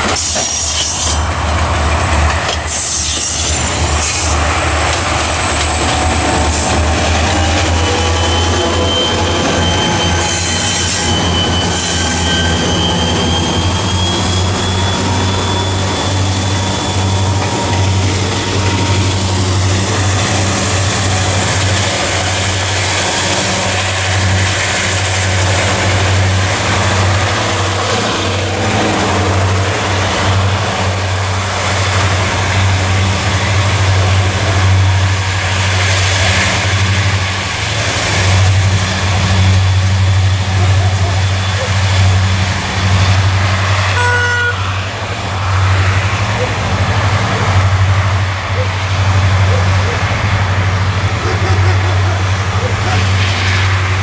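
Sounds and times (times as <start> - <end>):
wheels whining on rail: 0.0 - 54.0
locomotive engine rumble: 0.9 - 54.0.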